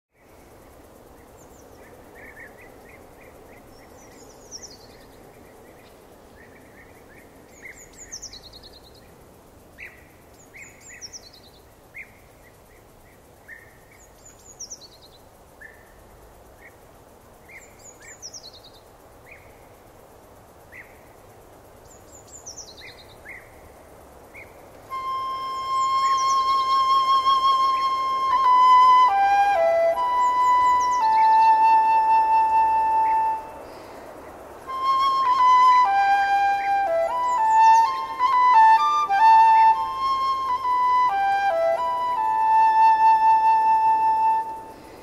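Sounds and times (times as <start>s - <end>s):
faint background hiss: 0.1s - 45.0s
lower bird chirps: 0.1s - 45.0s.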